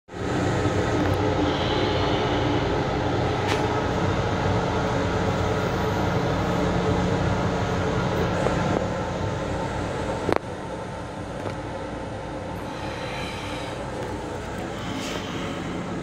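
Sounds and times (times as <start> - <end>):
electric railcar rumbling: 0.1 - 16.0.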